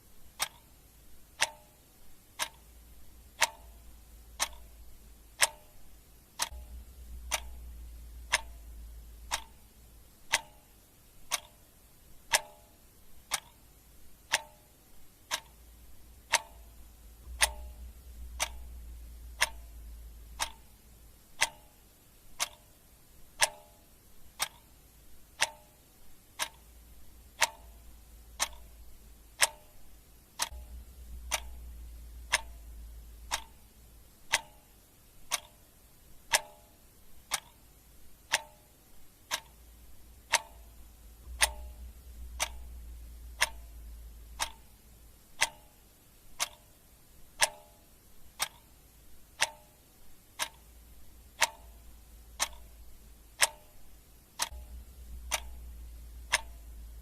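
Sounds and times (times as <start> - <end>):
clock ticking: 0.0 - 57.0
faint low rumble: 0.0 - 57.0.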